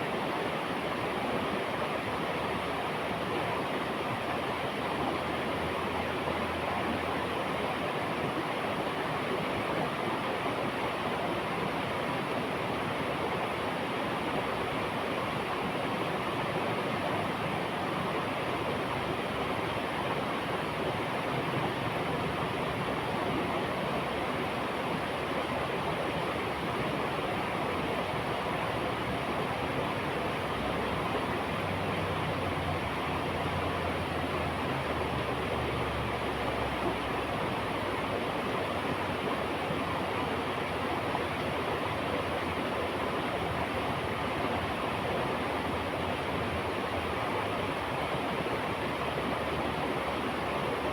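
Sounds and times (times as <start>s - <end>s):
river flowing: 0.0s - 50.9s.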